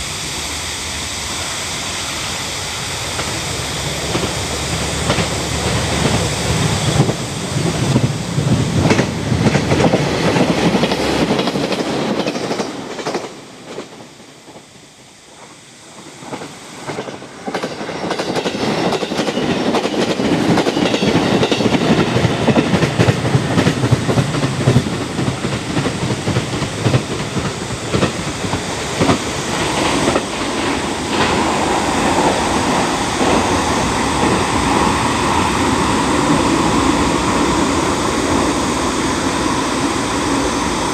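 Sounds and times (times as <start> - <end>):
train wheels clattering over rail joints: 3.0 - 14.7, 15.4 - 38.5.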